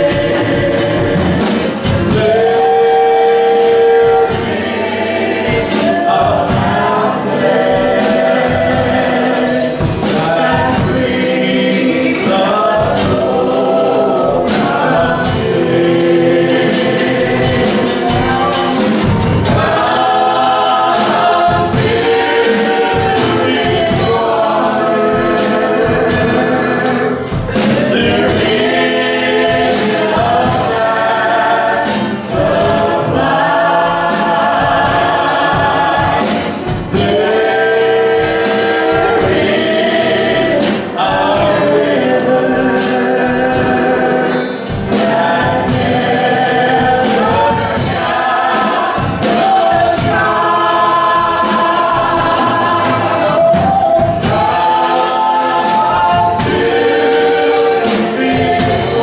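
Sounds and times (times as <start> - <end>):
vocal ensemble singing in harmony: 0.0 - 59.0.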